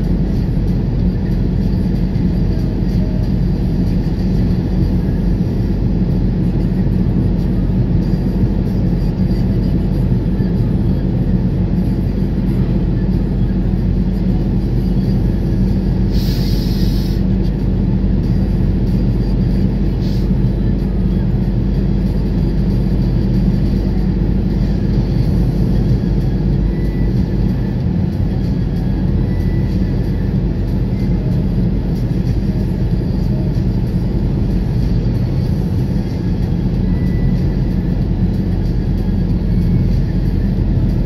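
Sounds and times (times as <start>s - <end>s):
car engine and tyre drone: 0.0s - 41.0s.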